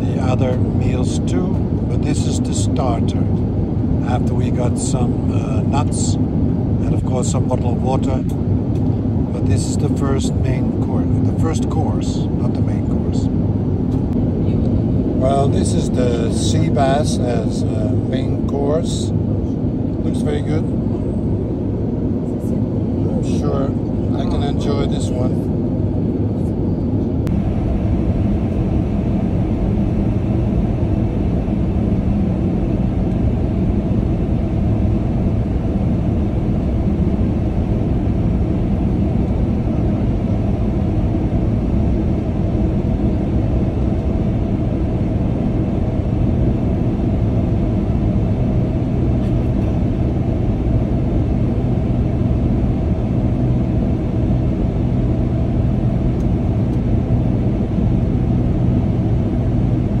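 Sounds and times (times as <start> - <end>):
airliner cabin drone: 0.0 - 60.0
faint steady hum: 0.0 - 60.0.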